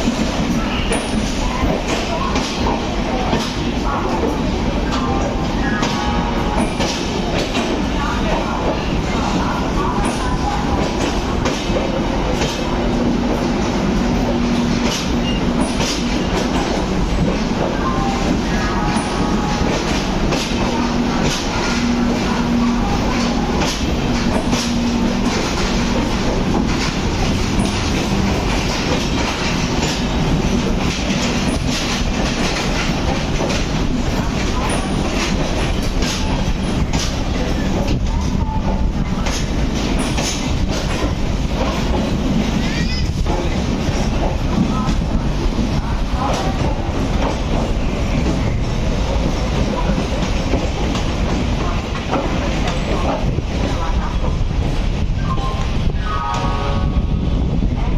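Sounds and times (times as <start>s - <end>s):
train wheels clacking over joints: 0.0s - 55.0s
train rumble: 0.0s - 57.9s.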